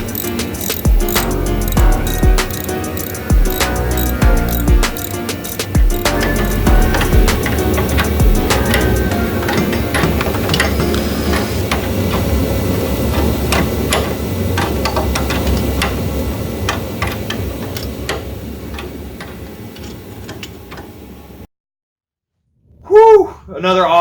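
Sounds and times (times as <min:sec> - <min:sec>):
tools clanking on metal parts: 0:00.0 - 0:20.9.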